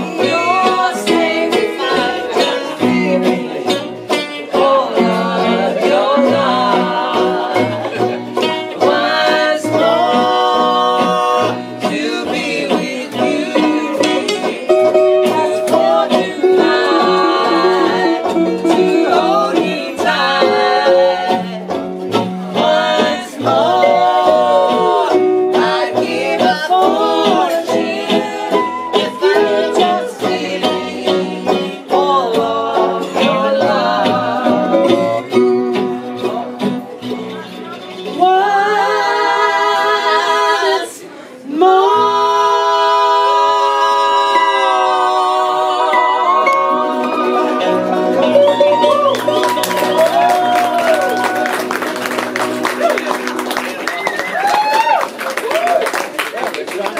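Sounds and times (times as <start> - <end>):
woman singing: 0.0 - 21.8, 22.4 - 36.8, 38.1 - 49.0
banjo: 0.0 - 54.9
acoustic string band playing: 0.0 - 55.4.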